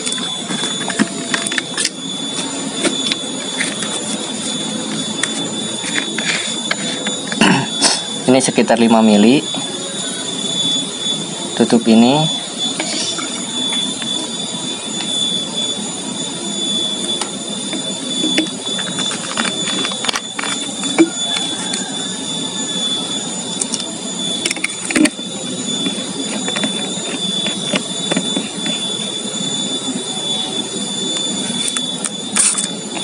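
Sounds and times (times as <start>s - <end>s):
steady high-pitched whine: 0.0s - 33.0s.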